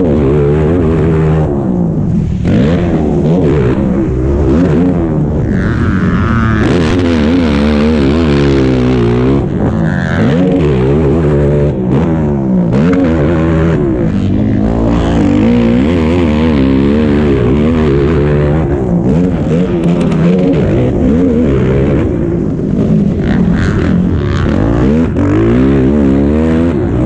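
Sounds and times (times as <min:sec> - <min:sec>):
quad engine revving: 0:00.0 - 0:27.0.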